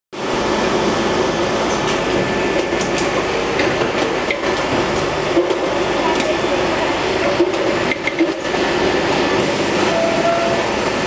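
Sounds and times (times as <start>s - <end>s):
machinery humming: 0.2s - 11.0s.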